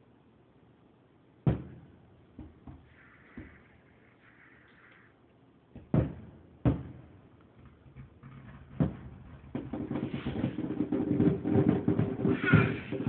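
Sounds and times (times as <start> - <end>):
firework booms: 1.4 - 5.1, 5.7 - 13.0
continuous run of firework sound: 1.5 - 5.2, 5.8 - 13.0.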